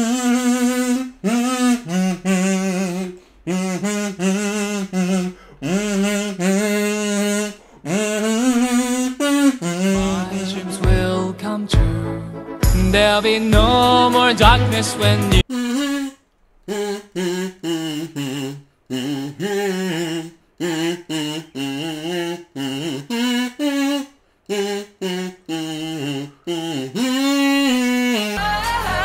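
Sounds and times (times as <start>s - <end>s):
kazoo playing a bouncy tune: 0.0s - 29.0s.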